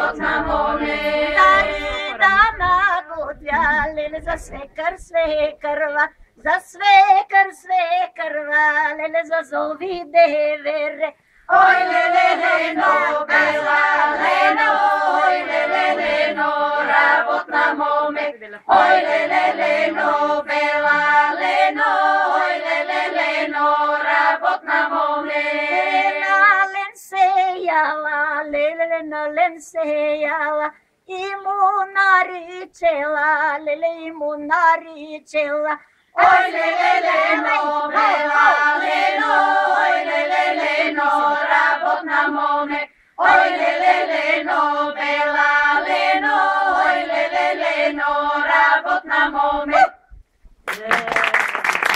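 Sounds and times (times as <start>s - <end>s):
women singing a cappella: 0.0s - 50.0s.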